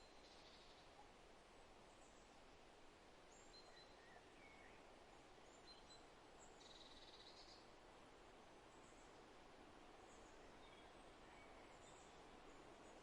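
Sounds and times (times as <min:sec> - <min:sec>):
wind through trees: 0:00.0 - 0:13.0.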